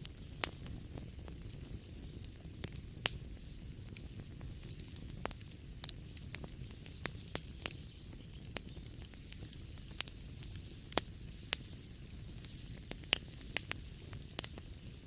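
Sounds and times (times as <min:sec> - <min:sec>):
low rumble and hiss of fire: 0:00.0 - 0:15.0
wood fire crackling and popping: 0:00.0 - 0:15.0.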